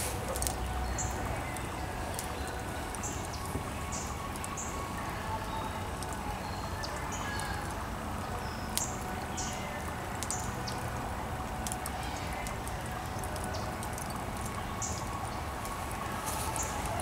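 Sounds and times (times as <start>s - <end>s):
charcoal fire crackling: 0.0s - 17.0s
steady background hiss: 0.0s - 17.0s.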